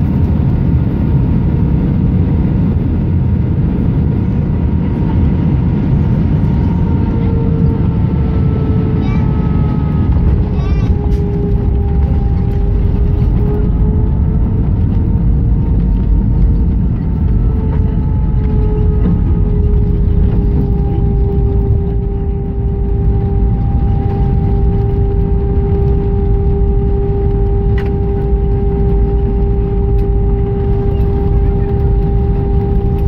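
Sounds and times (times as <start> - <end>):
airplane cabin rumble: 0.0 - 33.0
steady hum: 0.0 - 33.0.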